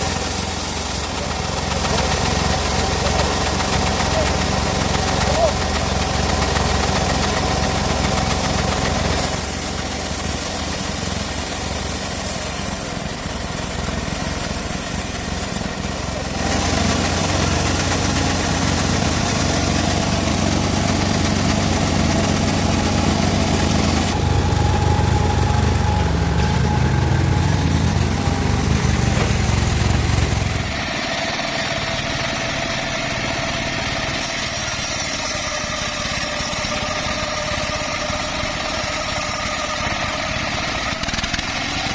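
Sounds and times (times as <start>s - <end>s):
band sawmill engine sawing wood: 0.0s - 41.9s.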